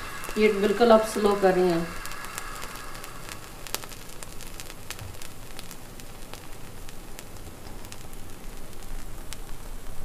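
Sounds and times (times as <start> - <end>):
pizza sizzling in frying pan: 0.0 - 10.0
small crackles: 0.0 - 10.0.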